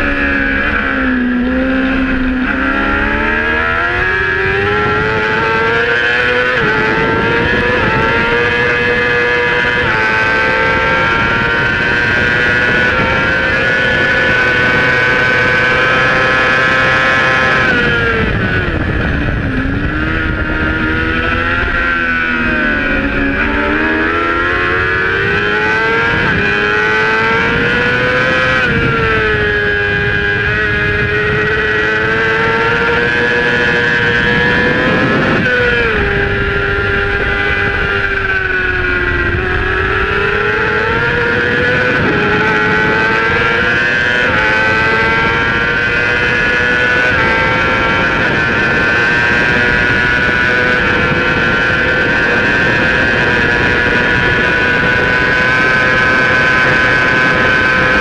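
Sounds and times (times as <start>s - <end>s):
racing motorcycle engine revving: 0.0s - 58.0s.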